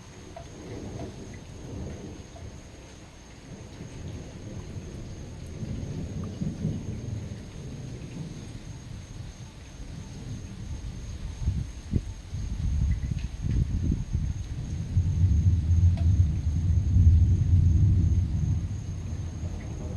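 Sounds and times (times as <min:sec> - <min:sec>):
rain hissing: 0:00.0 - 0:19.9
thunder rumbling: 0:00.0 - 0:19.9.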